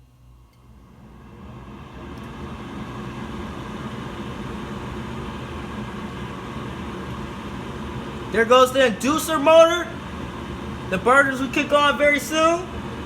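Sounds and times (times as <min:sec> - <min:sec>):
furnace motor humming: 0:00.0 - 0:13.0.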